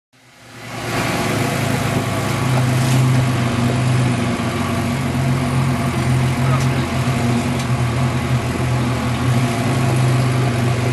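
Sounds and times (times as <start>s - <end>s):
car engine idling: 0.2s - 10.9s.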